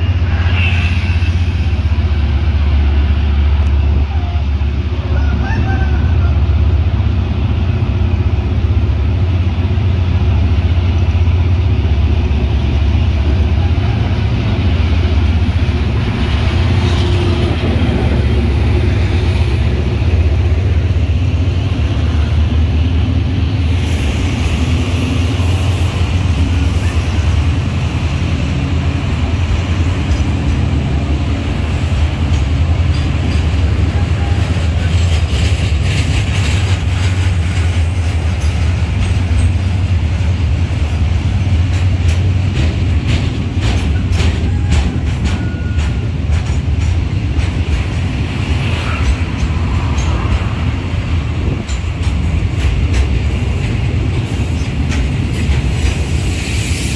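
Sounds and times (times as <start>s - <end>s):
locomotive engine rumbling: 0.0s - 56.9s
freight wagons rolling on rails: 7.0s - 56.9s.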